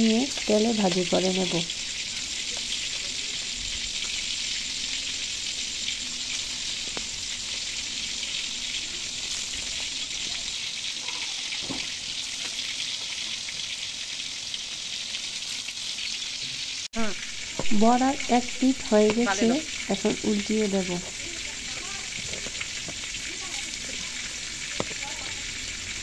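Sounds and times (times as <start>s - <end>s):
fritters sizzling in hot oil: 0.0s - 26.0s.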